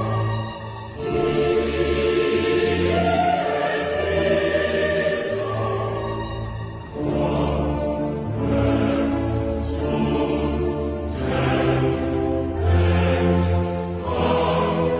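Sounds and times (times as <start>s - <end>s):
operatic choral singing: 0.0s - 14.9s.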